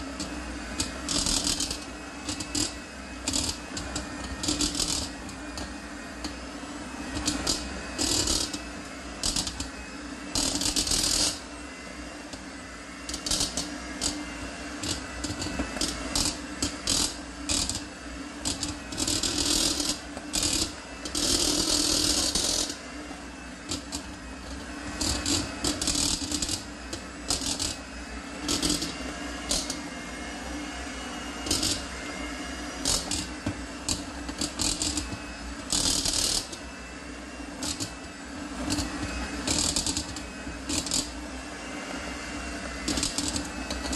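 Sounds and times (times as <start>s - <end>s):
electric hand mixer running: 0.0s - 43.9s.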